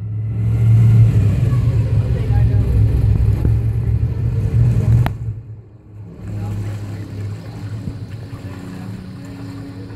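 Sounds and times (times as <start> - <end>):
outboard motor running: 0.6 - 9.9.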